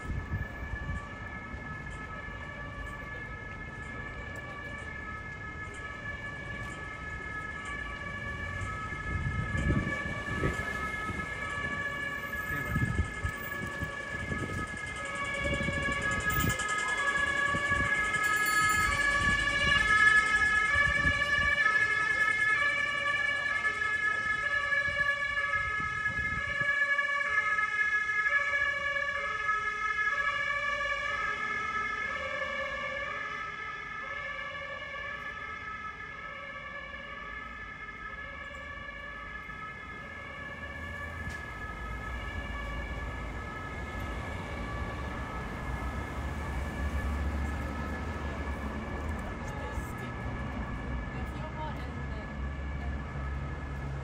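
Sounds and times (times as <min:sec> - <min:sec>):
low traffic rumble: 0:00.0 - 0:54.0
two-tone emergency siren: 0:00.0 - 0:54.0.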